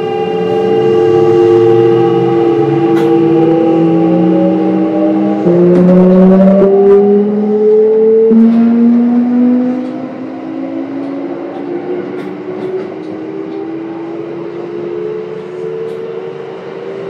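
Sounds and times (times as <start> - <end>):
electric train motor whine: 0.0 - 17.0.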